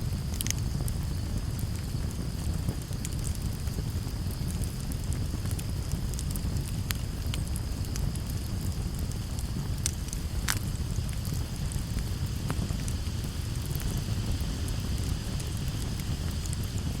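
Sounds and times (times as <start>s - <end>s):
campfire rumble: 0.0s - 17.0s
wood crackling and popping: 0.0s - 17.0s.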